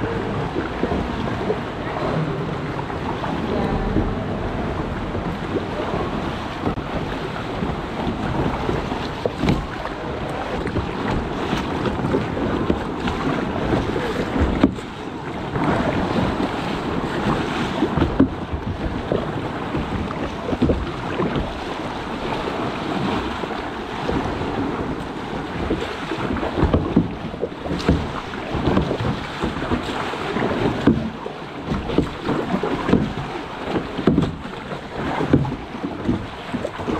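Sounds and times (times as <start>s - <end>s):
water splashing against kayak hull: 0.0s - 36.9s
wind buffeting microphone: 0.0s - 36.9s.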